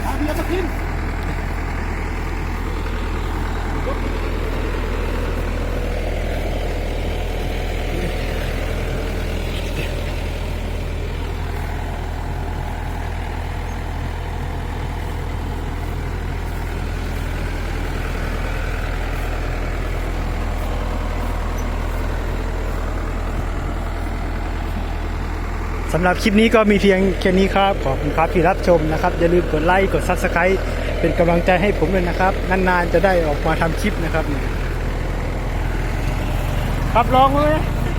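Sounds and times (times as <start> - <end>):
combine harvester engine running: 0.0 - 37.9.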